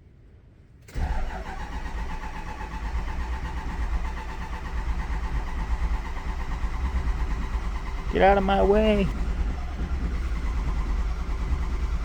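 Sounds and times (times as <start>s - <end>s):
starter cranking diesel engine: 0.9s - 12.0s.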